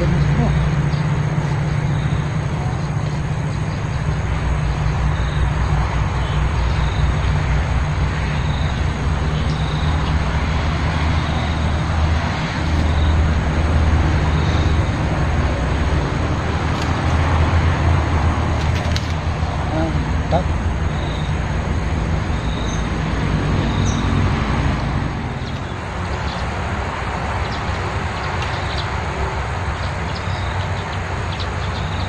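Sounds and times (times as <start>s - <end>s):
road traffic rumble and hiss: 0.0s - 32.0s.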